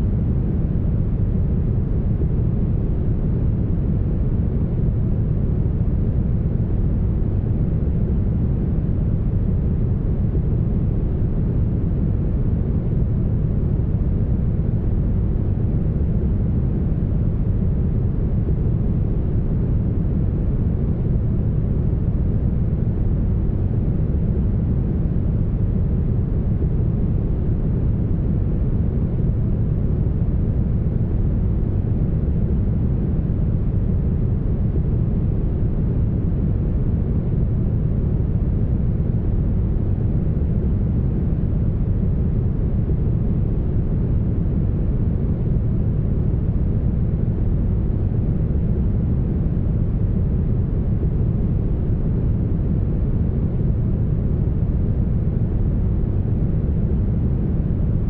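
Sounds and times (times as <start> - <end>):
deep brown noise: 0.0 - 58.0.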